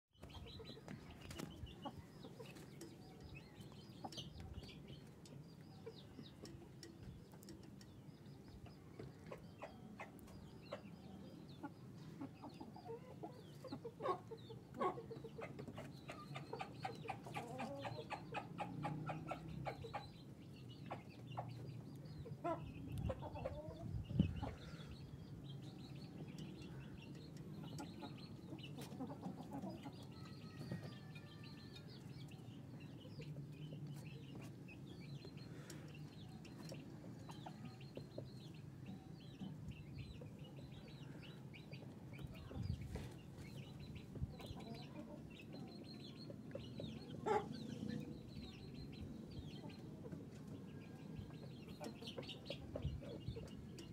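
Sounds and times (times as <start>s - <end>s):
young chickens clucking: 0.2s - 53.9s.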